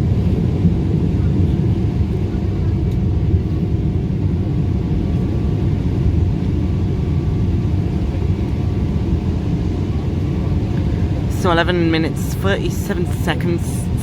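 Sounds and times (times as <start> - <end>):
aircraft cabin engine rumble: 0.0 - 14.0
faint steady hum: 0.0 - 14.0.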